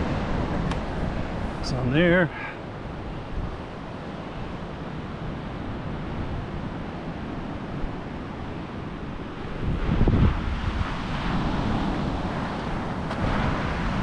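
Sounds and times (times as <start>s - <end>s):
surf washing on beach: 0.0s - 14.0s
wind rumbling on microphone: 0.0s - 14.0s.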